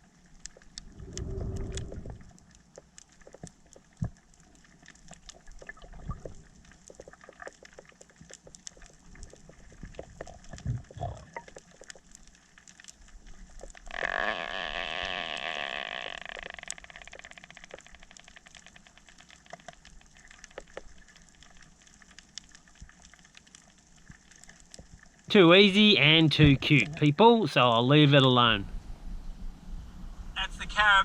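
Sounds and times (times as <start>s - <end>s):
underwater clicks and crackles: 0.0s - 27.0s.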